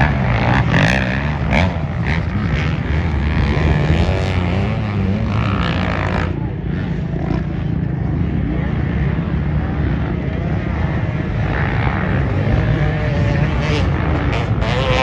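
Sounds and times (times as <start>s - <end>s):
off-road engines revving: 0.0s - 15.0s.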